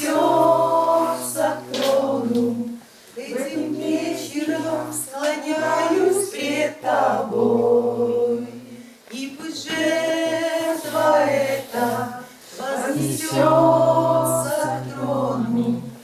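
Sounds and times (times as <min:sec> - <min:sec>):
people singing a worship song: 0:00.0 - 0:16.0.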